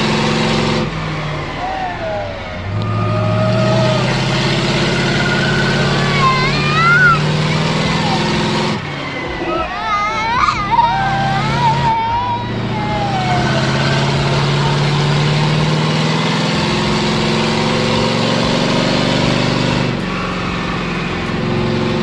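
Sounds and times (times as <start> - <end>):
heavy vehicle engine under load: 0.0 - 22.0.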